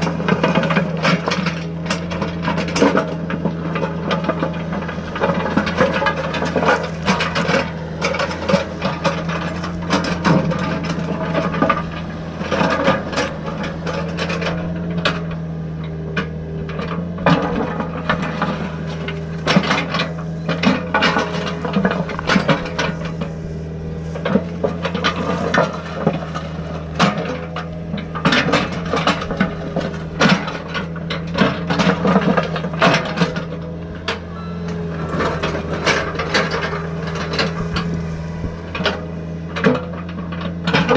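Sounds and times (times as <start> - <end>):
excavator motor hum: 0.0 - 40.9
excavator scraping and clattering: 0.0 - 40.9.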